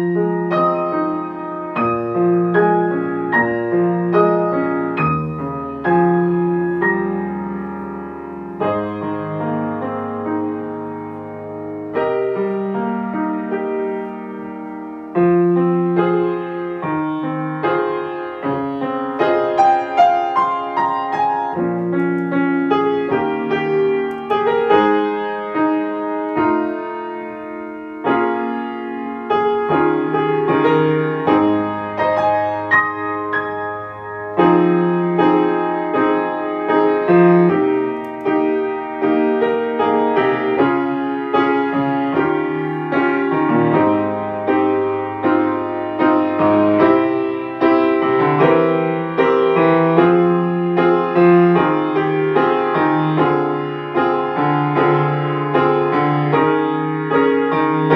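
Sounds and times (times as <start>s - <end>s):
piano accompaniment: 0.0s - 57.9s.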